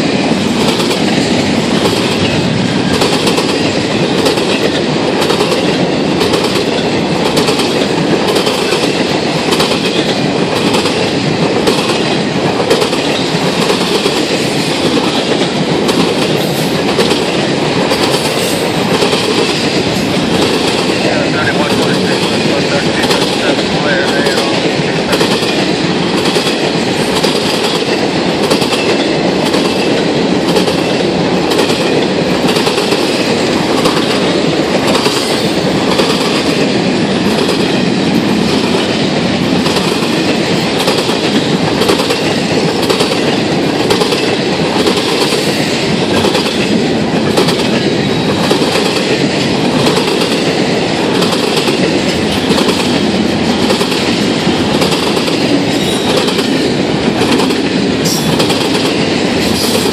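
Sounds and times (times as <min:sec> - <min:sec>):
freight train rumbling past: 0:00.0 - 0:59.9
train wheels clacking: 0:00.0 - 0:59.9.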